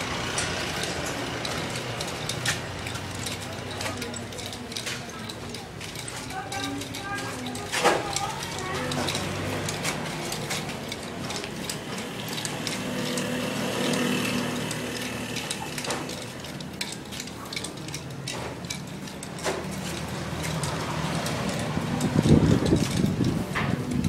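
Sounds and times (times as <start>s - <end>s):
metal chain rattling: 0.0s - 24.0s.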